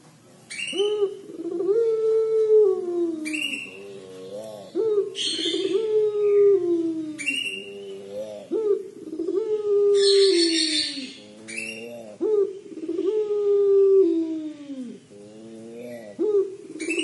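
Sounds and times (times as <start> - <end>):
dove crying call: 0.5 - 17.0.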